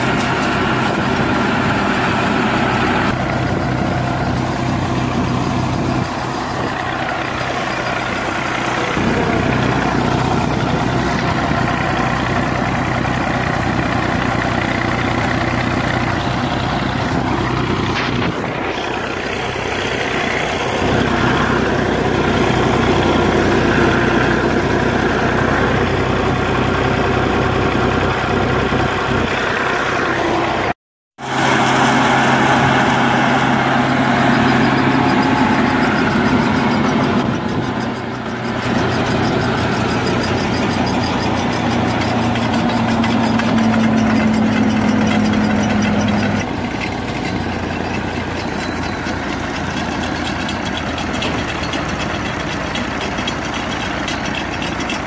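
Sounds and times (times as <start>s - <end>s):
hammer mill grinding dry grass: 0.0s - 55.0s
tractor engine running: 0.0s - 55.0s.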